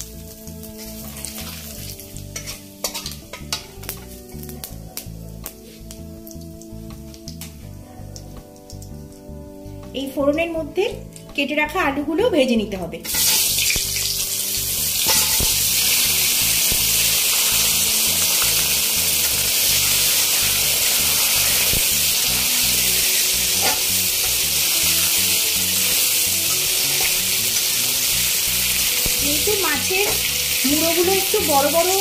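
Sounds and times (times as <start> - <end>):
potatoes sizzling in hot oil: 0.0 - 10.8, 13.0 - 32.0.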